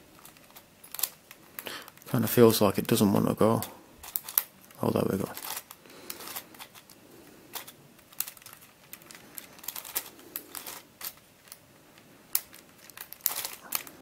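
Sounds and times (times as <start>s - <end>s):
plastic puzzle pieces clicking: 0.2s - 2.1s, 4.0s - 7.0s, 7.6s - 14.0s.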